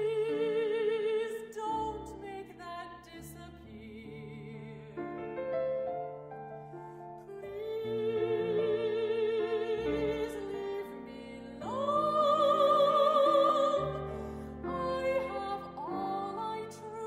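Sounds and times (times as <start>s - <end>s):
woman singing classical style: 0.0s - 5.5s, 6.6s - 17.0s.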